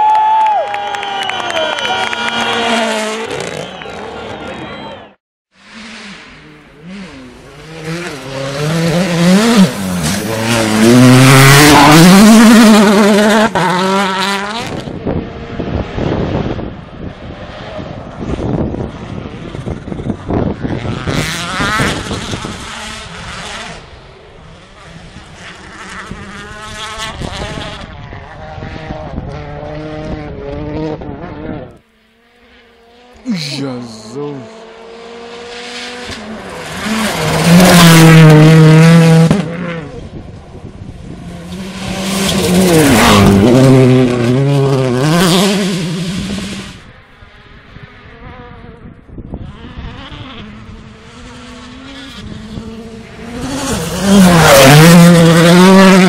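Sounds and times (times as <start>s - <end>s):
rally car engine revving hard: 2.1s - 3.8s, 5.6s - 31.8s, 32.8s - 46.9s, 48.0s - 56.0s.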